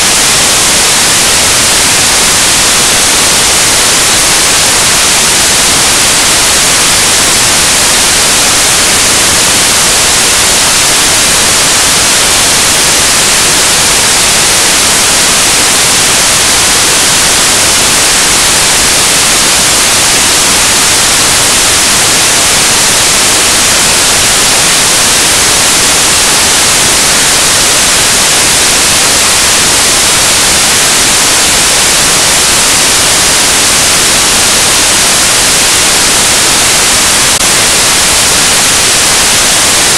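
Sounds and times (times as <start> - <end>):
loud steady static hiss: 0.0 - 39.9.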